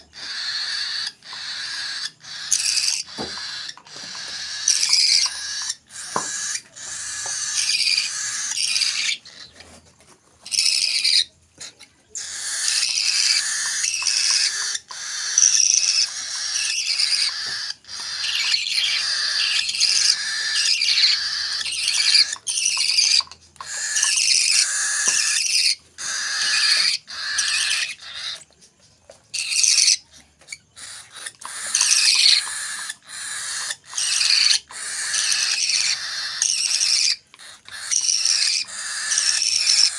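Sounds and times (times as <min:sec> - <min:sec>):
bird chicks food-begging calls: 0:00.0 - 0:39.9.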